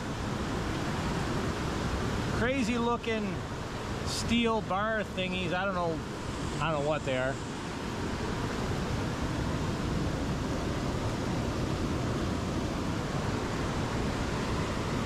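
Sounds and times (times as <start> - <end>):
whitewater rushing over rapids: 0.0 - 15.0.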